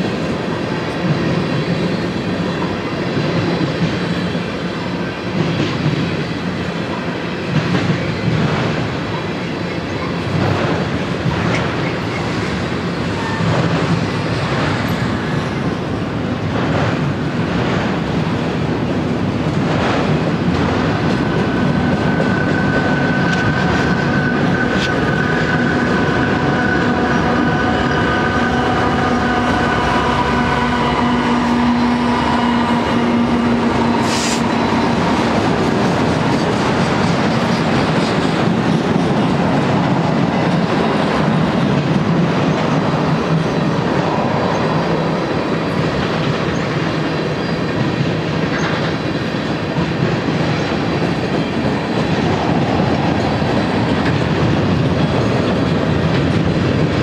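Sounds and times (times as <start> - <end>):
diesel locomotive engine drone: 0.0 - 57.0
freight train wheels rumbling: 0.0 - 57.0.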